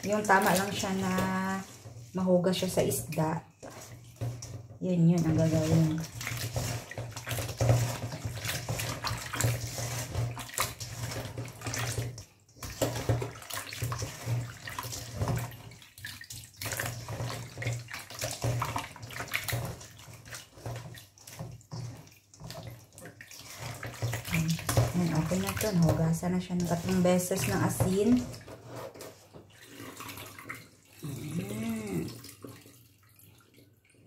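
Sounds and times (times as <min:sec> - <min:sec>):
fish splashing in water bowl: 0:00.0 - 0:28.6, 0:29.4 - 0:34.0.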